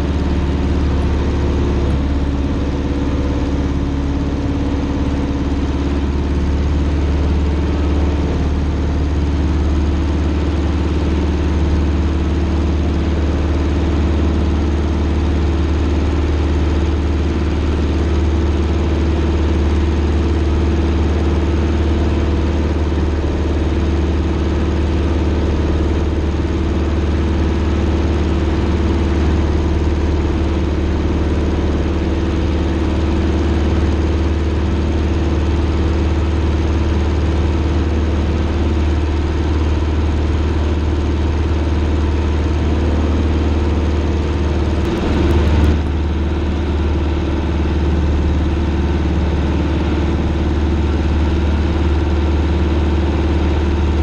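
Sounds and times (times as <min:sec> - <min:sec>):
propeller plane engine in flight: 0:00.0 - 0:54.0.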